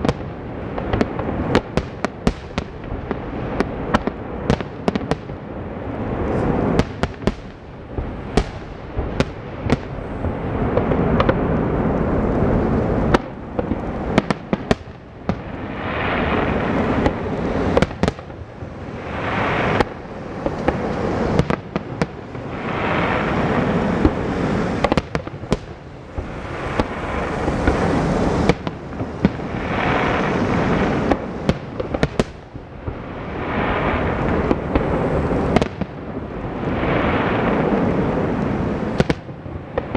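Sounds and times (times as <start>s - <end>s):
rolling wash of noise: 0.0s - 39.9s.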